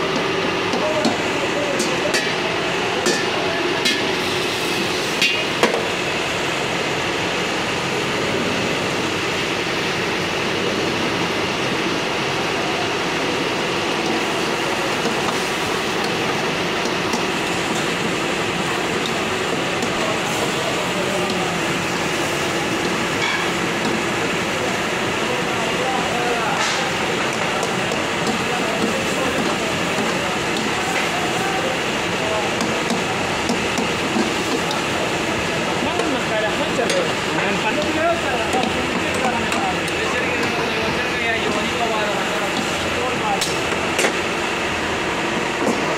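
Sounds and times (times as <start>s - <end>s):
gas burners roaring: 0.0s - 45.9s.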